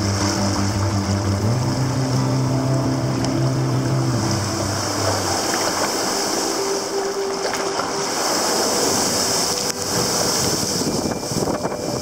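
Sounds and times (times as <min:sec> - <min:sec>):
surf against rocks: 0:00.0 - 0:12.0
wind on microphone: 0:00.0 - 0:12.0.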